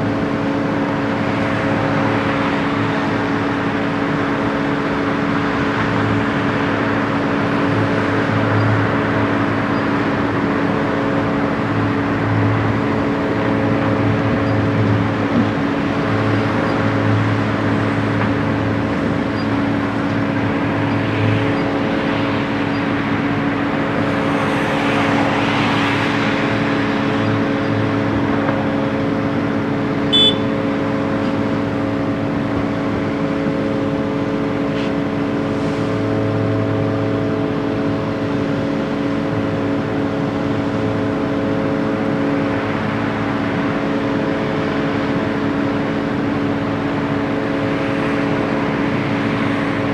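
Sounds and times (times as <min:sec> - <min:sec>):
heavy diesel engine running: 0:00.0 - 0:49.9
rushing noise: 0:01.2 - 0:41.5.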